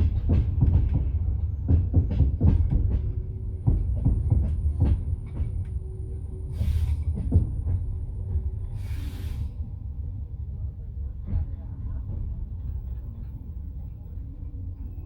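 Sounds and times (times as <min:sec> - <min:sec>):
railway carriage rumbling: 0:00.0 - 0:15.0.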